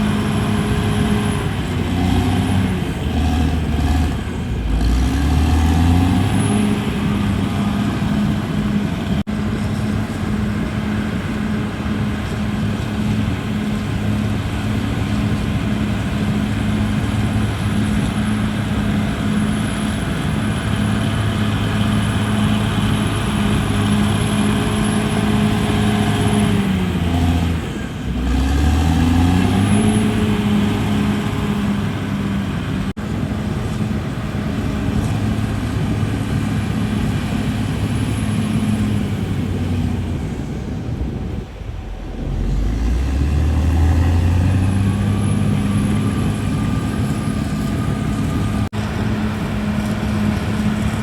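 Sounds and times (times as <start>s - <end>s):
bulldozer diesel engine: 0.0s - 51.0s.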